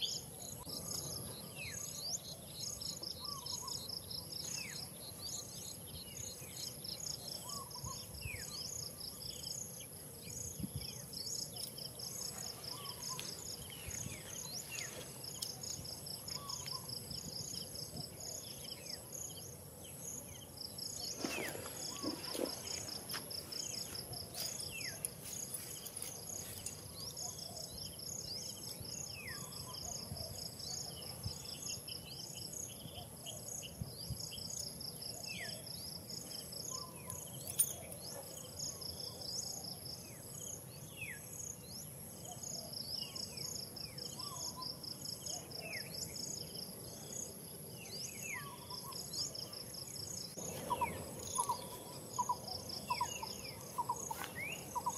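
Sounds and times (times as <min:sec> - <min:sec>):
high insect whine: 0:00.0 - 0:54.9
insects trilling: 0:00.0 - 0:54.9.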